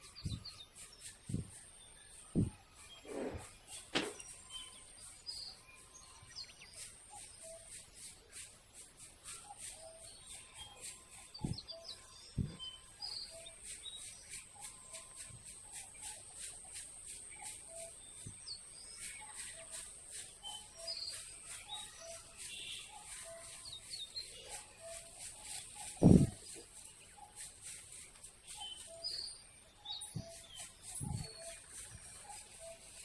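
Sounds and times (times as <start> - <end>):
birds chirping: 0.0 - 8.6, 9.6 - 33.0.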